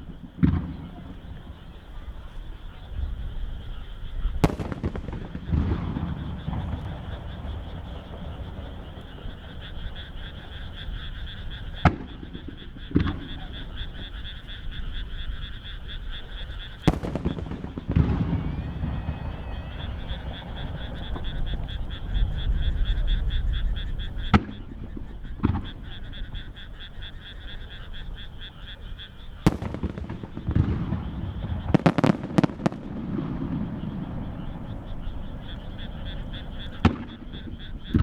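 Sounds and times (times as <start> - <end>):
firework shells booming: 0.0 - 38.0
frogs croaking: 0.0 - 38.0.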